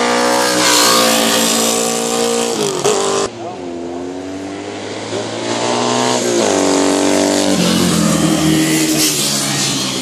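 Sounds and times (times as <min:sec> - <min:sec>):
motorcycles accelerating past: 0:00.0 - 0:10.0.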